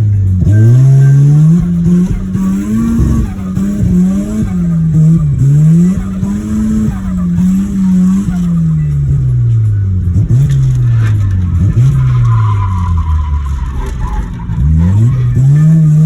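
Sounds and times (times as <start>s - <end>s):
rotary engine revving: 0.0s - 16.0s
tyres skidding: 0.0s - 16.0s.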